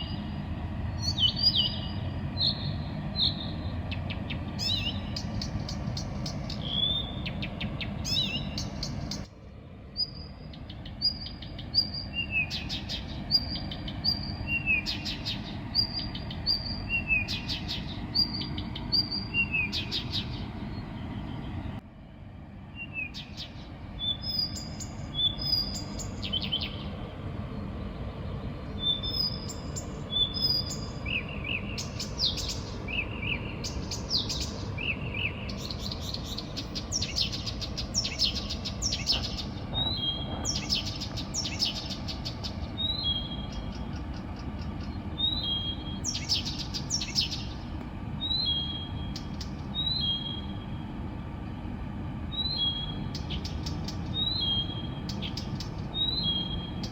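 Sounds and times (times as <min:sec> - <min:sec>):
low background rumble: 0:00.0 - 0:56.9
songbird singing: 0:00.0 - 0:56.9.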